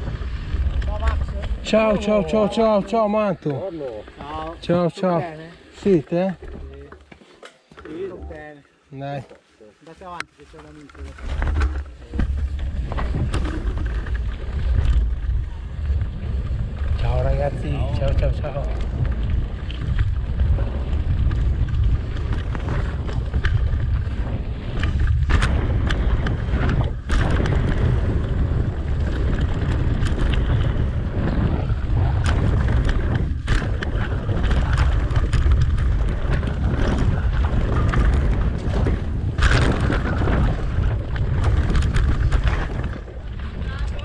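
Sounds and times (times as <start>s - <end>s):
wind buffeting microphone: 0.0s - 6.6s, 11.0s - 44.0s
bike rattling over bumps: 0.0s - 8.5s, 10.0s - 44.0s
tyres rolling over dirt and leaves: 0.0s - 44.0s.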